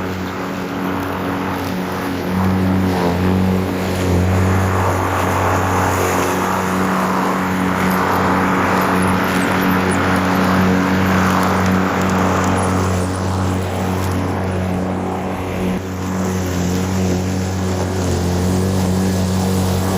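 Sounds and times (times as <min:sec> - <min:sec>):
engine humming steadily: 0:00.0 - 0:19.9.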